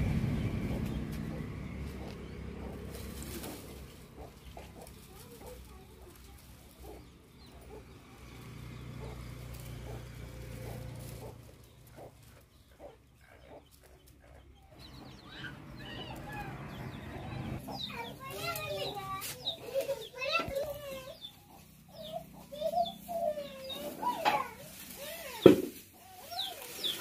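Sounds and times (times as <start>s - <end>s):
chickens clucking: 0.0s - 27.0s
dry twigs rustling and crackling: 0.1s - 14.2s, 17.6s - 27.0s.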